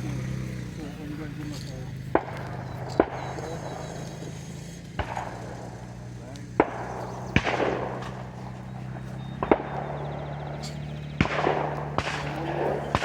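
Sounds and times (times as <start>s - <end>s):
steady low hum: 0.0s - 13.0s
shotgun shots: 1.6s - 13.0s.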